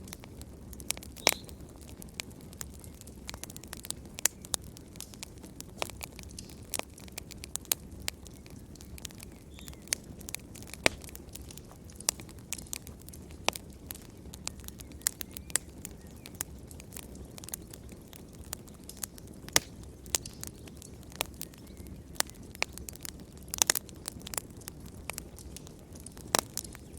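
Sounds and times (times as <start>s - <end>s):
low rumble of burning: 0.0s - 26.9s
wood fire crackling: 0.0s - 26.9s.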